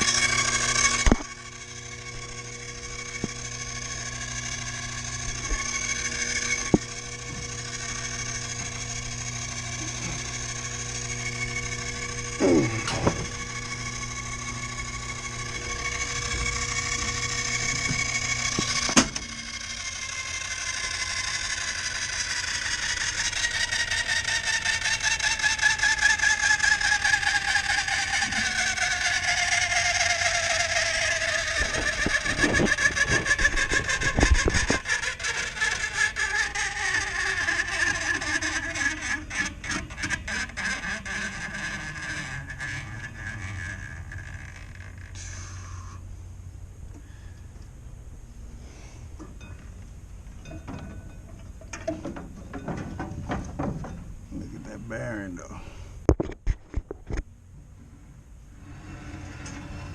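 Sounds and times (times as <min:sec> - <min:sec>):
electric motor humming: 0:00.0 - 0:57.2, 0:57.8 - 0:59.9
motor whine falling in pitch: 0:00.0 - 0:59.9.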